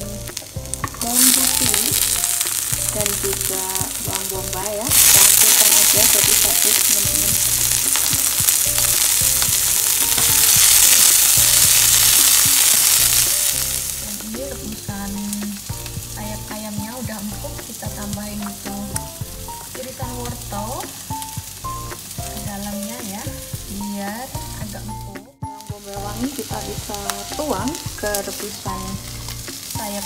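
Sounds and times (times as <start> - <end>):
background music: 0.0 - 30.0
food sizzling in hot oil: 0.0 - 30.0.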